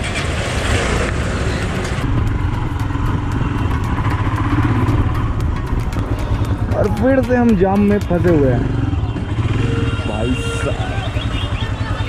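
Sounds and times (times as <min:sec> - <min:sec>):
motorcycle engine running: 0:01.2 - 0:12.0.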